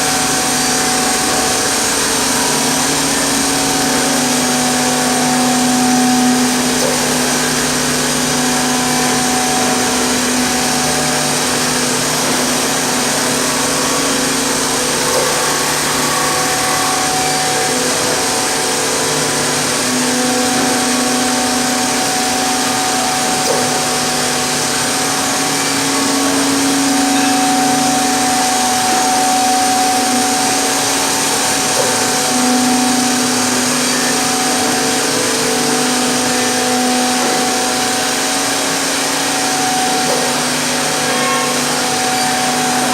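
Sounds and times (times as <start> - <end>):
mortising machine hiss and hum: 0.0 - 42.9.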